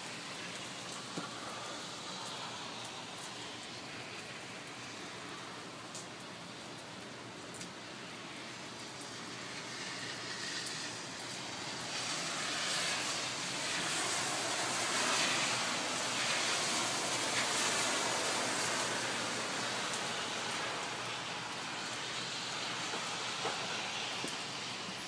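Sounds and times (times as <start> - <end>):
heavy rain: 0.0 - 25.0.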